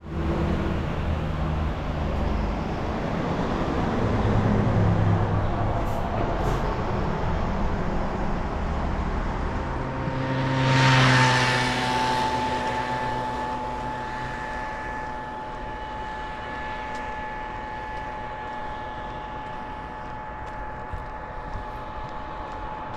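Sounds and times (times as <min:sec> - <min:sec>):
car engine hum: 0:00.0 - 0:22.9
road noise: 0:00.0 - 0:22.9.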